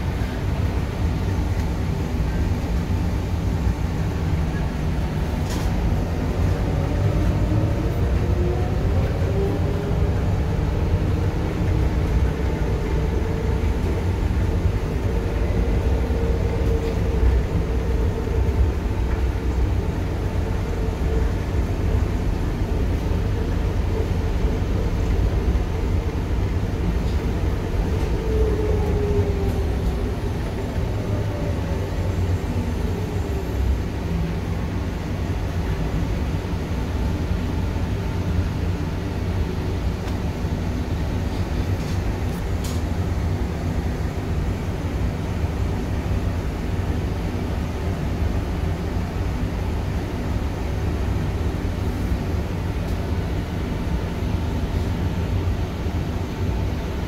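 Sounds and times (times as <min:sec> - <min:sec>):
train ride low rumble: 0:00.0 - 0:57.0.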